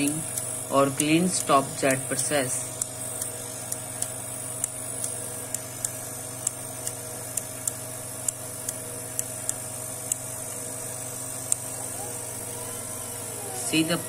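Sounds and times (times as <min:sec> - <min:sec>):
machine hum: 0:00.0 - 0:14.0
valve clicks: 0:00.0 - 0:14.0.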